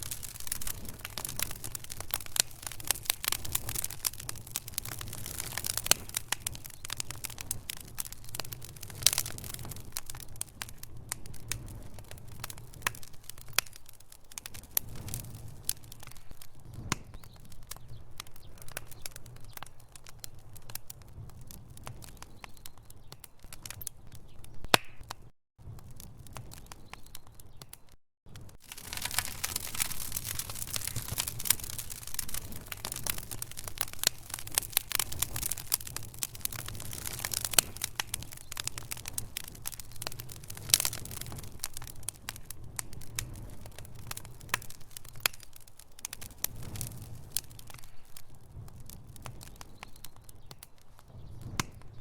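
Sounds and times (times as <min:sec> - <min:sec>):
logs crackling and popping: 0:00.0 - 0:52.0
low fire rumble: 0:00.0 - 0:52.0.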